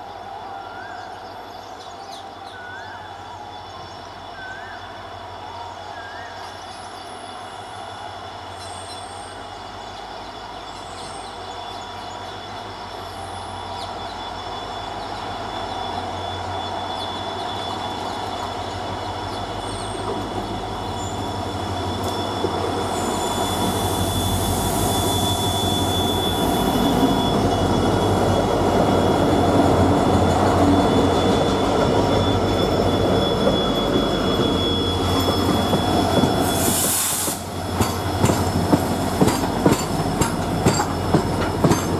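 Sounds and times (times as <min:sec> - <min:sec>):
train wheels squealing: 0:00.0 - 0:41.9
locomotive engine hum and rumble: 0:08.0 - 0:41.9.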